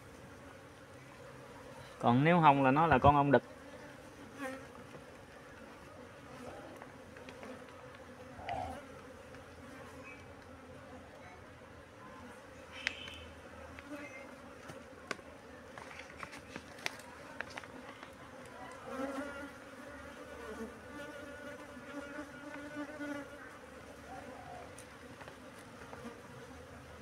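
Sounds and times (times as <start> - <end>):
honeybees buzzing: 0.0 - 27.0.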